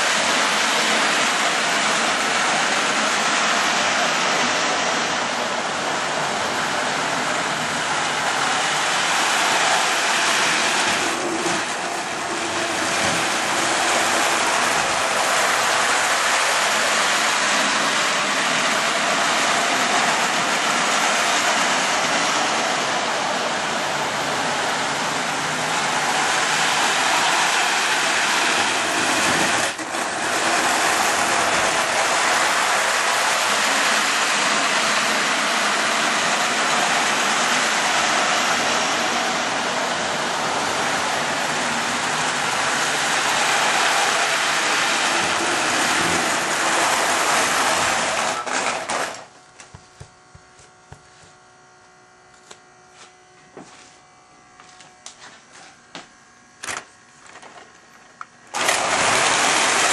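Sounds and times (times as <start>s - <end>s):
toy train running on track: 0.0s - 49.3s, 58.5s - 59.9s.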